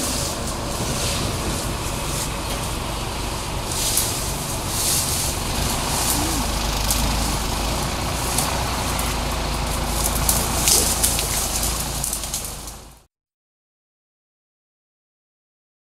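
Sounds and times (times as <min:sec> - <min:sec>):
car engine low rumble: 0:00.0 - 0:13.1
road and wind noise hiss: 0:00.0 - 0:13.1.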